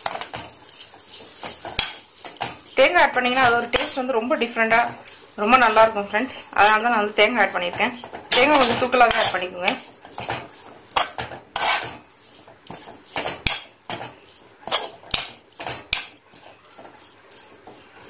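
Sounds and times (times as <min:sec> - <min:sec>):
metal spatula scraping pan: 0:00.0 - 0:18.0.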